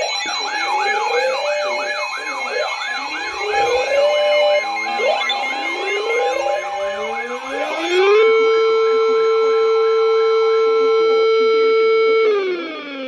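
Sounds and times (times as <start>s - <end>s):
fast siren yelp: 0.0s - 13.0s
siren wails: 0.0s - 13.0s.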